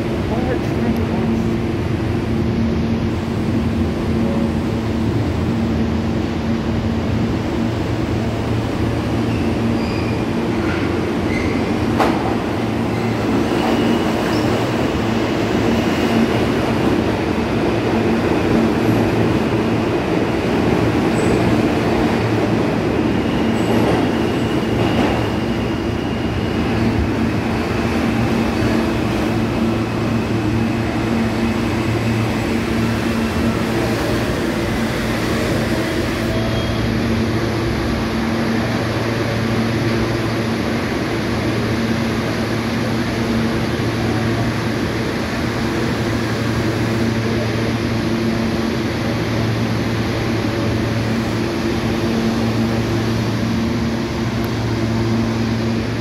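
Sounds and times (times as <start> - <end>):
subway train rumbling on rails: 0.0 - 56.0.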